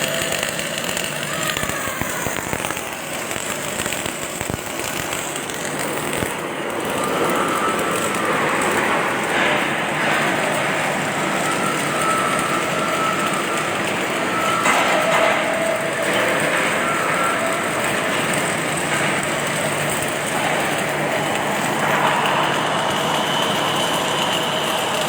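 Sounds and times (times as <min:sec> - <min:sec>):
machinery whining tones: 0:00.0 - 0:25.0
welding arc crackling hiss: 0:00.0 - 0:25.0.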